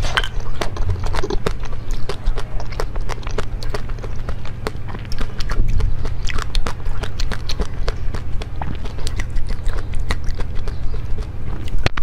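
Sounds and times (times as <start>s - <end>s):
crunching and chewing chocolate: 0.0s - 12.0s.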